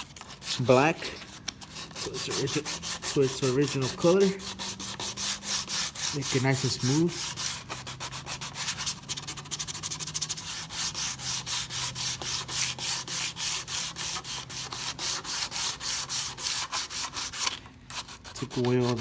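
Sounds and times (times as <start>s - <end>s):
sandpaper rubbing painted trim: 0.0s - 19.0s.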